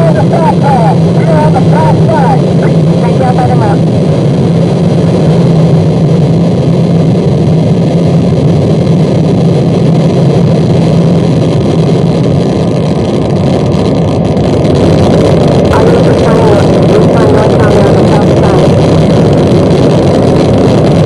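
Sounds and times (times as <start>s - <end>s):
heavy low drone: 0.0s - 21.0s
wall of distorted noise: 0.0s - 21.0s.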